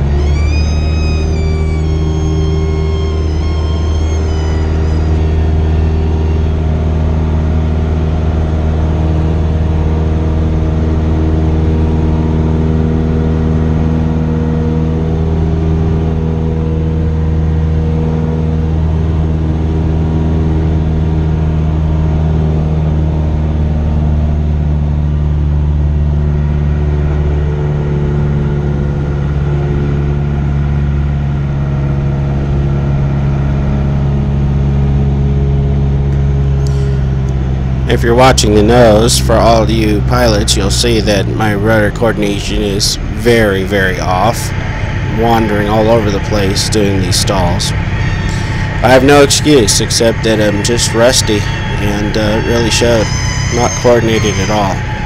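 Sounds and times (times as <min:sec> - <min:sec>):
light aircraft cabin engine drone: 0:00.0 - 0:55.0.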